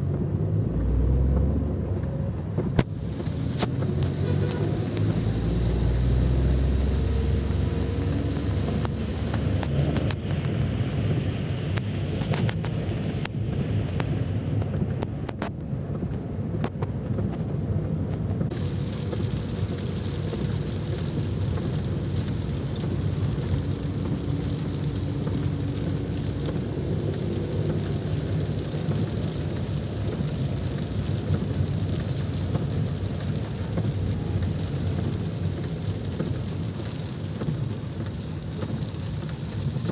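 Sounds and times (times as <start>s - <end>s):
constant low rumble: 0.0s - 39.9s
sharp ticks of raindrops: 0.0s - 39.9s
steady rain falling: 0.0s - 39.9s.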